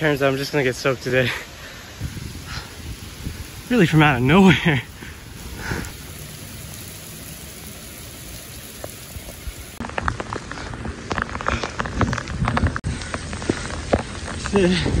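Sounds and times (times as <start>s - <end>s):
heavy rain on pavement: 0.0s - 15.0s.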